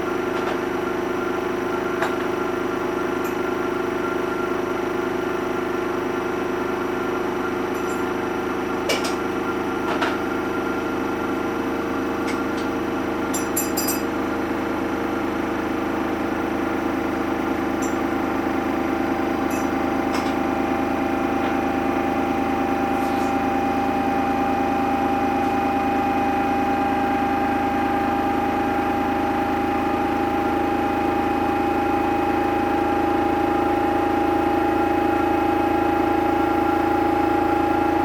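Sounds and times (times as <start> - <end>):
washing machine motor whine: 0.0 - 38.0.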